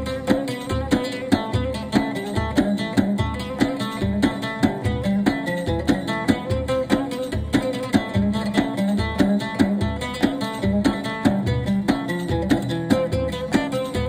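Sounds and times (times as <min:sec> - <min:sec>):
plucked saz melody: 0:00.0 - 0:14.0.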